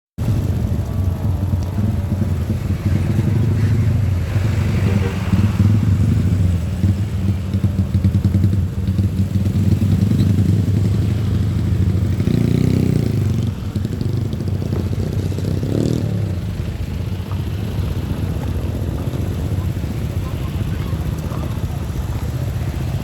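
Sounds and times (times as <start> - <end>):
road traffic rumble: 0.2 - 23.0.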